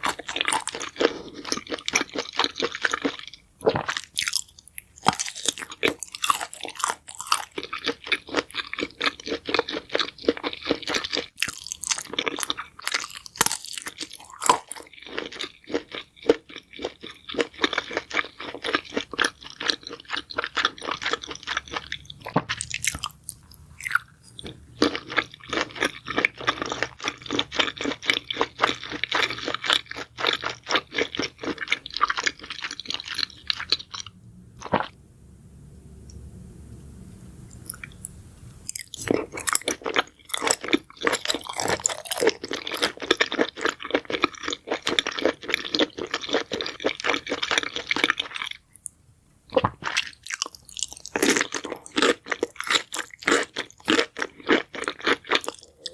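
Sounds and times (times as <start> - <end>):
chewing crunchy food: 0.0 - 34.9, 37.6 - 55.9.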